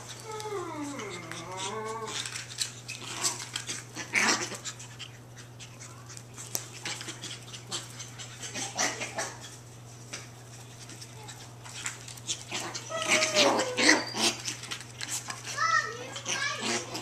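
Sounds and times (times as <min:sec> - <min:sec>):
puppies breathy noises: 0:00.0 - 0:17.0.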